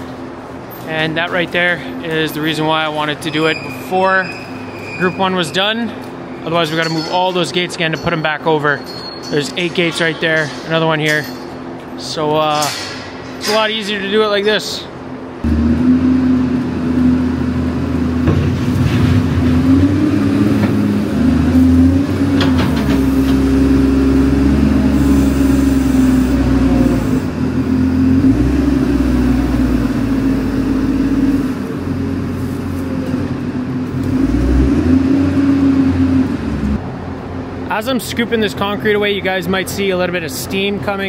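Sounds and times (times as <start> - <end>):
diesel engine under load: 0.0 - 40.8.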